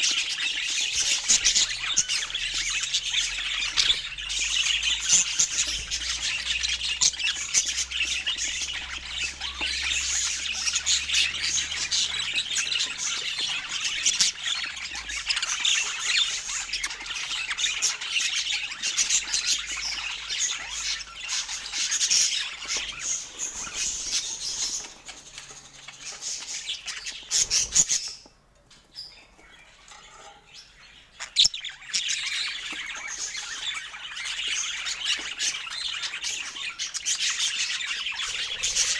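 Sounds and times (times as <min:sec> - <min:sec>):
parakeet squawks: 0:00.0 - 0:25.2, 0:31.1 - 0:38.9
parakeets chattering and chirping: 0:00.0 - 0:38.9.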